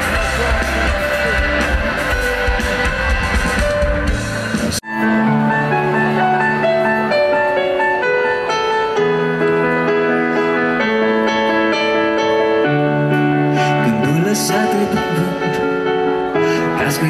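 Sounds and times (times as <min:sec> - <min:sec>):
keyboard playing slow chords: 0:00.0 - 0:17.0.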